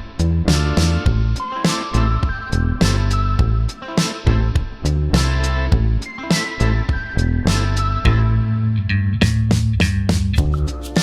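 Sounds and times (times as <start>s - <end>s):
funky music with bass and drums: 0.0s - 11.0s.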